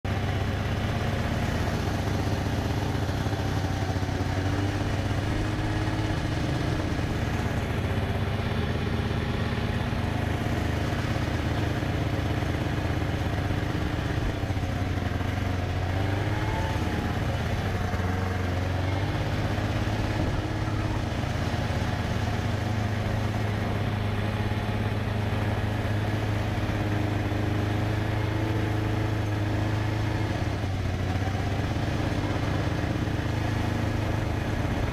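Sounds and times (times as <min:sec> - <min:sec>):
engine running steadily: 0:00.0 - 0:34.9.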